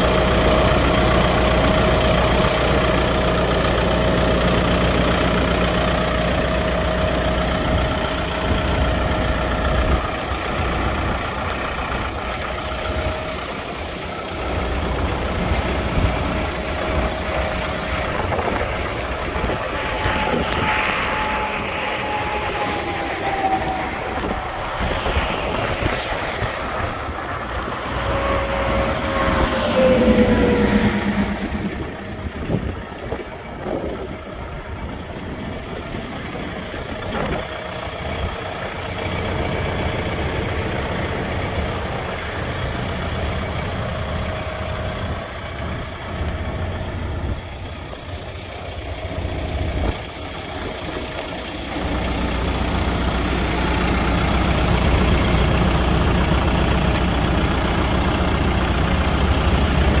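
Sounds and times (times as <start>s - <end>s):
diesel tractor idling: 0.0s - 60.0s.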